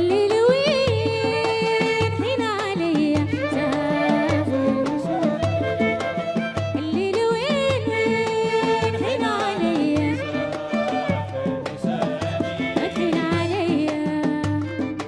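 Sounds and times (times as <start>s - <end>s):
ornamented sung melody: 0.0s - 14.8s
steady percussion beat: 0.0s - 15.0s.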